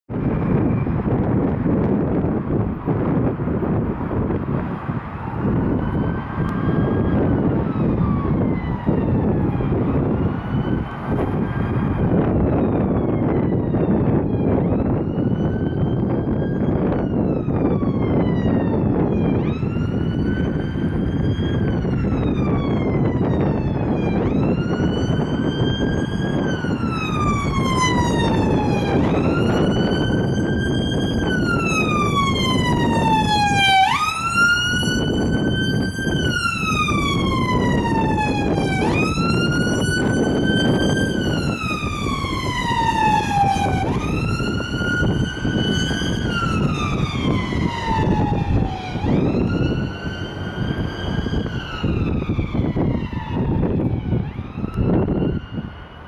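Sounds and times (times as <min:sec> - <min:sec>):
ambulance wail siren: 0:00.1 - 0:56.0.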